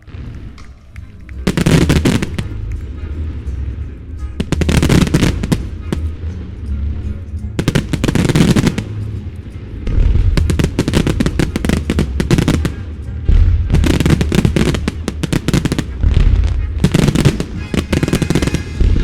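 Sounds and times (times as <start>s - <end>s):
firework volleys and crackle: 0.0s - 19.0s
show music: 0.0s - 19.0s.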